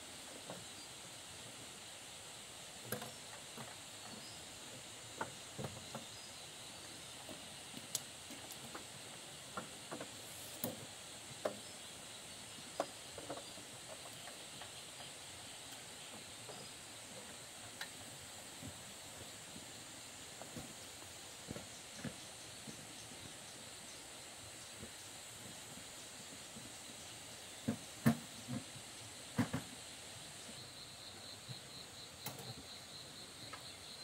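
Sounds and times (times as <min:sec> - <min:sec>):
faint high insect buzz: 0:00.0 - 0:34.0.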